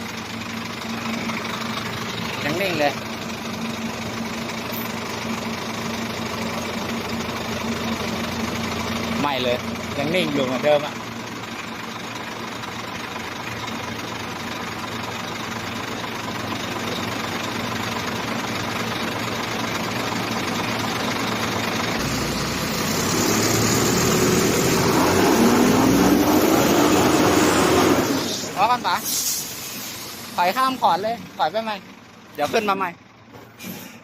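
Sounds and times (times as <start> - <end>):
truck diesel engine straining: 0.0 - 34.0.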